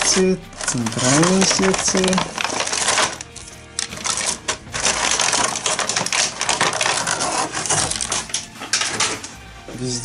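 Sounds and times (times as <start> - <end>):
plastic track pieces clattering: 0.0 - 9.3.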